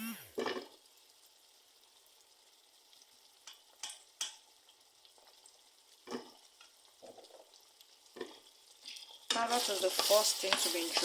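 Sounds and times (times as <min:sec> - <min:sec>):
meat and carrots sizzling in a pan: 0:00.4 - 0:11.0.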